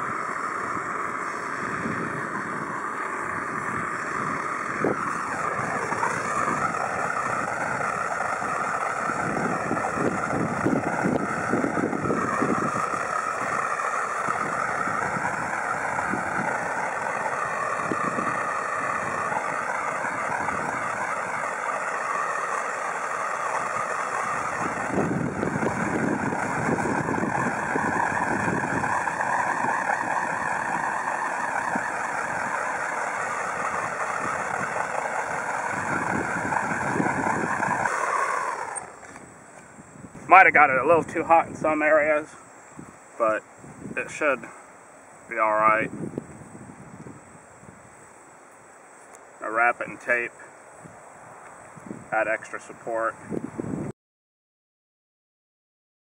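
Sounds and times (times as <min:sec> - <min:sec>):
wind buffeting microphone: 0:00.0 - 0:44.6, 0:45.2 - 0:48.1, 0:49.6 - 0:53.9
propane torch hissing: 0:00.0 - 0:45.5.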